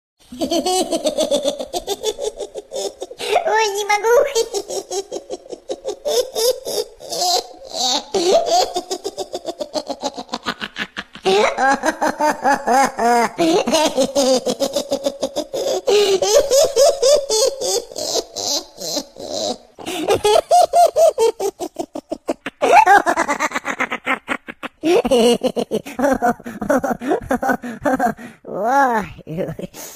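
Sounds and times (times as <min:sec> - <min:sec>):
hearty laughter: 0:00.3 - 0:03.3, 0:04.2 - 0:28.2.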